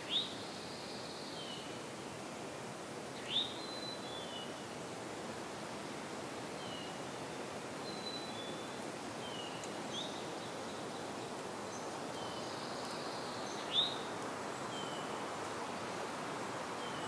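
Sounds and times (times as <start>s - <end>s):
rustling hiss: 0.0s - 17.0s.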